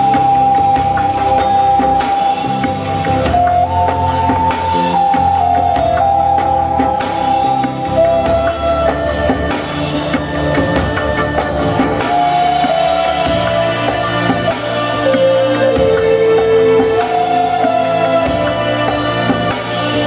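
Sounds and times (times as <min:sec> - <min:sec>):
wooden flute melody: 0:00.0 - 0:20.0.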